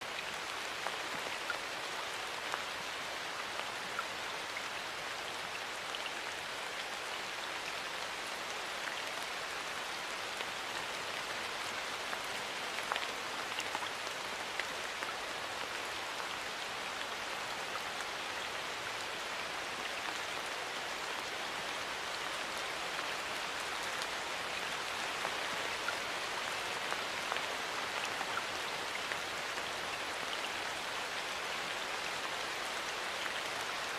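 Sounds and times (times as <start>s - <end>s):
raindrops ticking on a surface: 0.0s - 33.9s.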